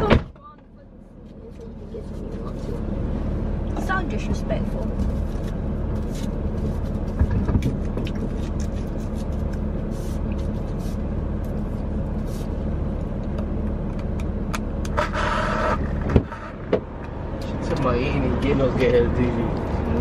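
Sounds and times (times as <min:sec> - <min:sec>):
car interior driving drone: 0:00.0 - 0:20.0.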